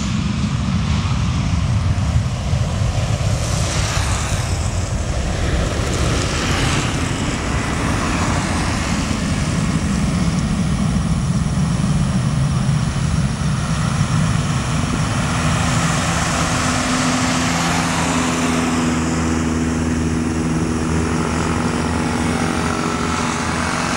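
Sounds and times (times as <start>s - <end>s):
jet engine roaring: 0.0s - 23.9s
low steady drone: 0.0s - 23.9s.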